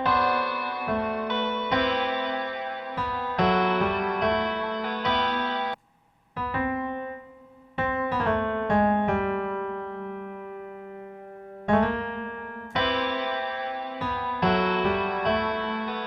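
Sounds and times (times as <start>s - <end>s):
slow piano melody: 0.0s - 5.8s, 6.4s - 16.0s.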